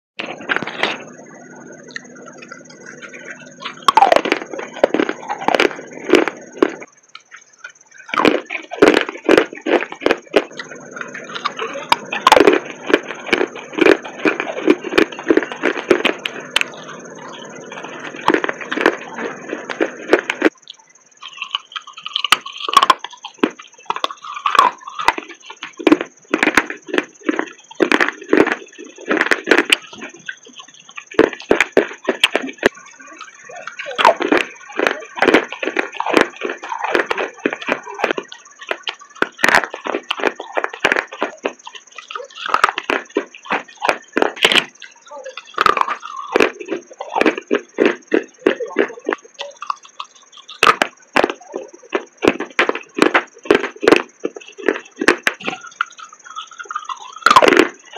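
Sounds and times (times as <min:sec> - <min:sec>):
crunching and chewing clay: 0:00.2 - 0:57.9.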